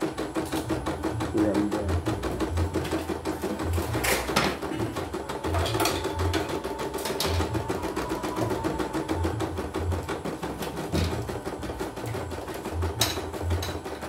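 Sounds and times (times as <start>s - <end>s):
embroidery machine stitching: 0.0s - 14.0s.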